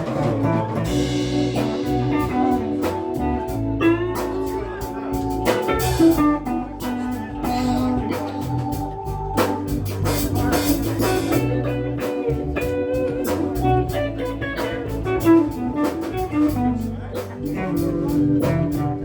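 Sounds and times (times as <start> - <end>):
blues band playing: 0.0 - 19.0
drum kit steady beat: 0.0 - 19.0
electric guitar lines: 0.0 - 19.0.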